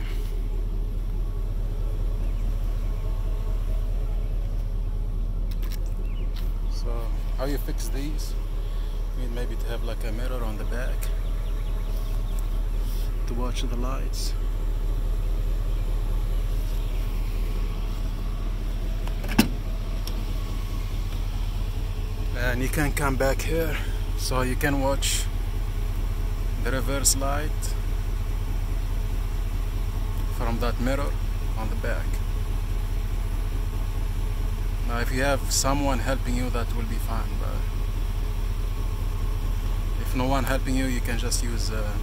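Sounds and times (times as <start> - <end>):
pickup engine idling: 0.0 - 42.0.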